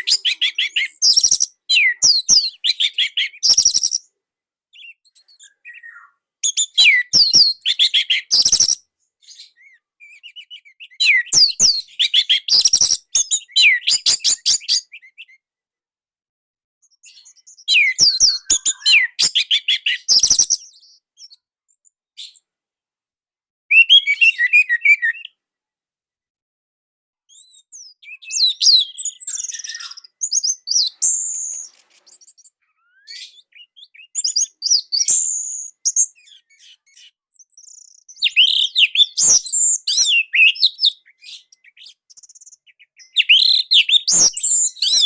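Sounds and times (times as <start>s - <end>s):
thrush singing whistles and chirps: 0.0s - 4.1s, 4.7s - 15.4s, 16.8s - 21.4s, 23.7s - 25.4s, 27.3s - 45.0s.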